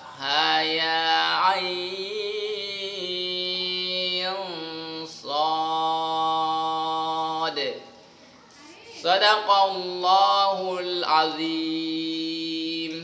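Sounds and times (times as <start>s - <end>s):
man chanting melodically: 0.0s - 7.9s, 9.0s - 13.0s.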